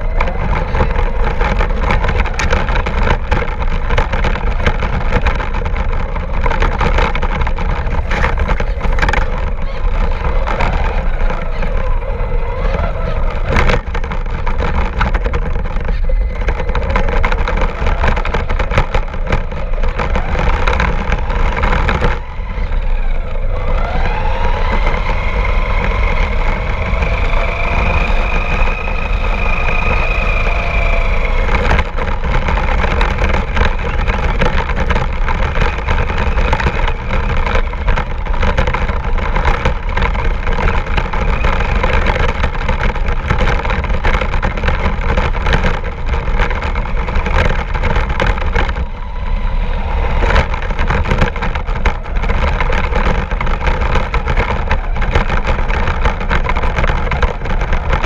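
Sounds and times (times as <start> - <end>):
crackling and rattling: 0.0 - 58.0
heavy low rumble: 0.0 - 58.0.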